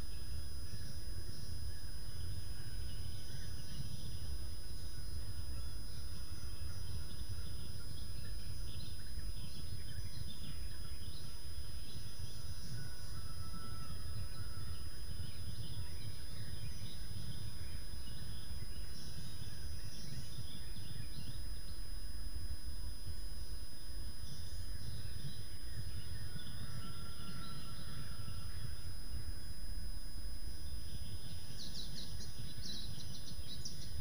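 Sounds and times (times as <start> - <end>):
birds chirping and singing: 2.0 - 21.8, 24.2 - 29.3, 30.6 - 34.0.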